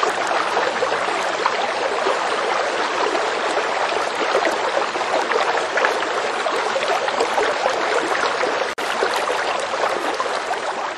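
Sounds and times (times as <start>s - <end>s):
water rushing over rocks: 0.0s - 10.9s.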